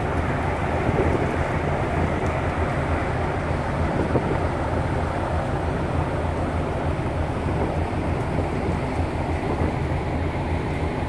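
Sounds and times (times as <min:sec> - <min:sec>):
ship engine drone: 0:00.0 - 0:11.0
wind on microphone: 0:00.0 - 0:11.0.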